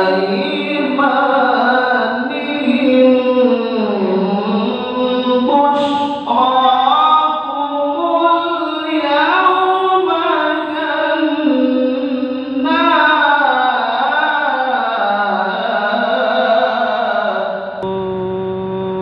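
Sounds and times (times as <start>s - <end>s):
man reciting in melodic style: 0.0s - 17.8s.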